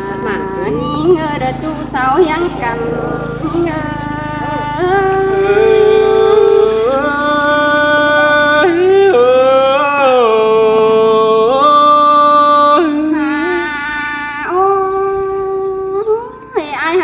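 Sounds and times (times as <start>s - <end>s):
person singing folk song: 0.0s - 17.0s.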